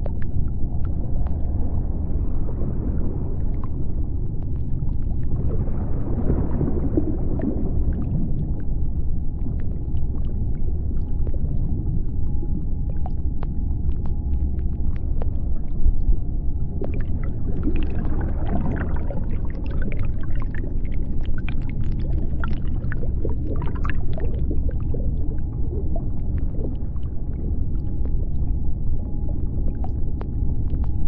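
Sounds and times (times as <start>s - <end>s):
low underwater rumble: 0.0s - 31.0s.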